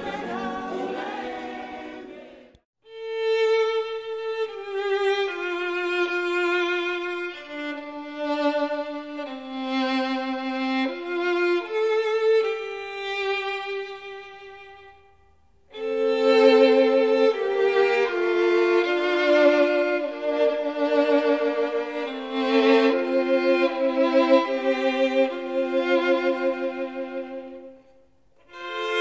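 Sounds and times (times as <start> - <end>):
slow bowed violin melody: 2.8 - 29.0.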